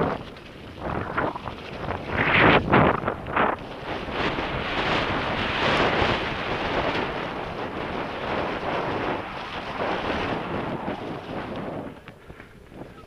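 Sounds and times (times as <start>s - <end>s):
tyres rolling over mud and leaves: 0.0s - 12.1s
wind buffeting microphone: 0.0s - 13.0s.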